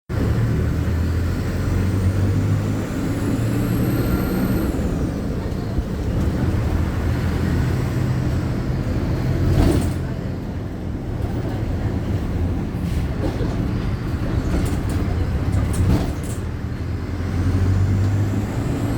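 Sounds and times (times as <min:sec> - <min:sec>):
bus engine drone: 0:00.1 - 0:18.9.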